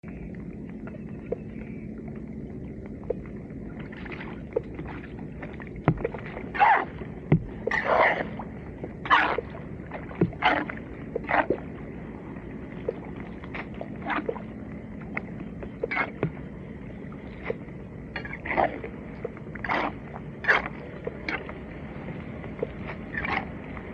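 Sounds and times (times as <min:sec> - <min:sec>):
floodwater splashing and sloshing: 0:00.0 - 0:23.9
steady low hum: 0:00.0 - 0:23.9.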